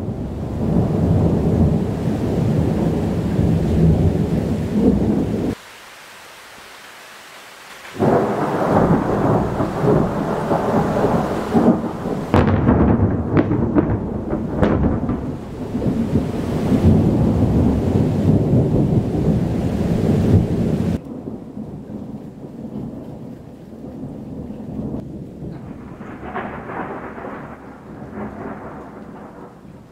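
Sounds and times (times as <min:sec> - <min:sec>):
thunder rumbling and cracking: 0:00.0 - 0:05.6, 0:07.9 - 0:29.9
rain hissing: 0:00.0 - 0:29.9.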